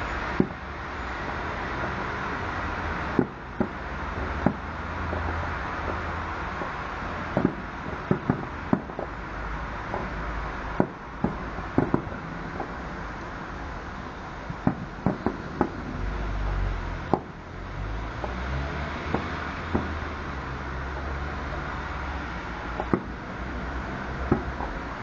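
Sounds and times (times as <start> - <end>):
distant fireworks bangs: 0.0 - 1.4, 3.0 - 9.2, 9.8 - 12.8, 14.4 - 17.4, 18.2 - 25.0.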